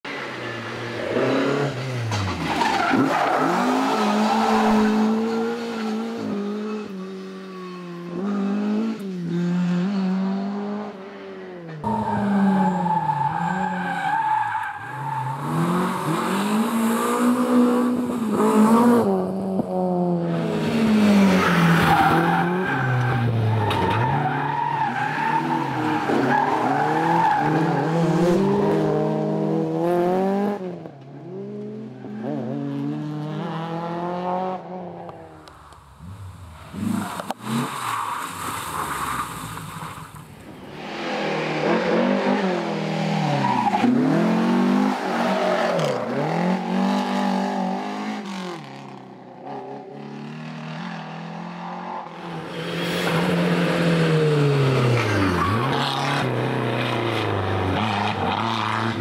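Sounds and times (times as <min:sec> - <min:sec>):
rally car engines revving: 0:00.1 - 0:59.0.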